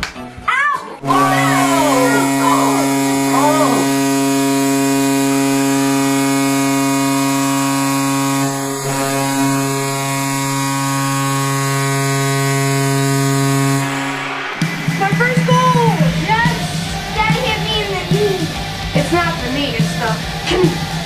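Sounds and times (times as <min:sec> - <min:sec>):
arena goal horn blast: 0:01.0 - 0:20.9.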